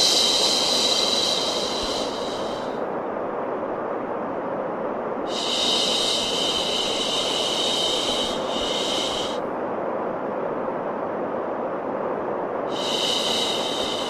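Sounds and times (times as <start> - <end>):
steady white noise: 0.0 - 14.0.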